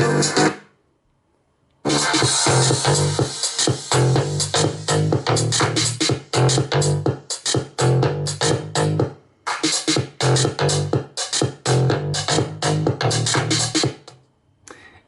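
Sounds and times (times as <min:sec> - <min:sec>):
electronic music with heavy bass: 0:00.0 - 0:00.7, 0:01.8 - 0:14.2.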